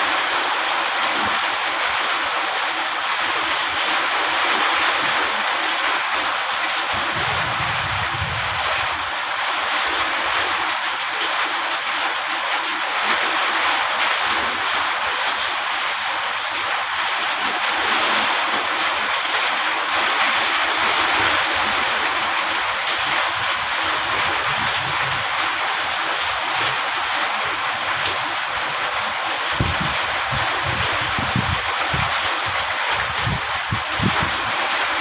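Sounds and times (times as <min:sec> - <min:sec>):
rain falling: 0:00.0 - 0:35.0.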